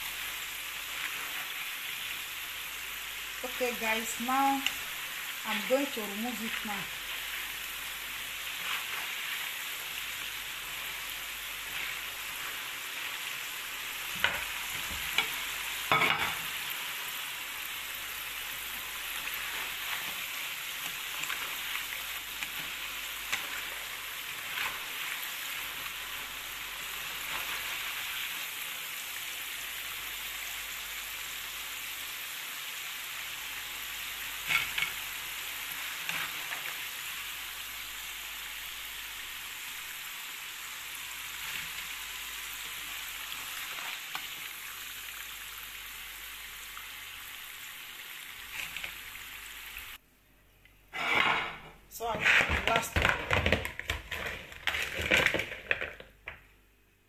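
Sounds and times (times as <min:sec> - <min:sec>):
fries sizzling in hot oil: 0:00.0 - 0:50.0, 0:50.9 - 0:56.5.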